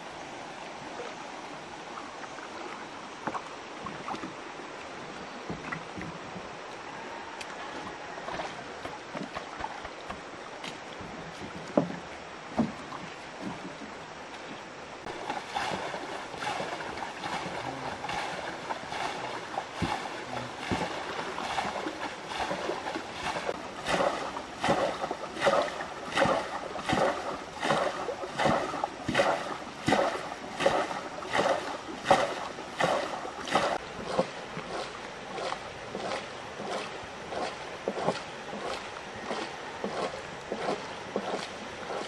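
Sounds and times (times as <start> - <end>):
rhythmic water splashing from boat: 0.0 - 42.0.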